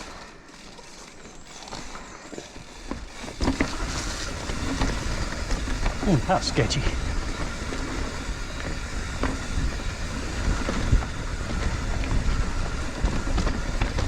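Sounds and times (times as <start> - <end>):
bike clicks and knocks: 0.0 - 6.0, 7.3 - 14.0
mountain bike rumbling on trail: 0.0 - 14.0.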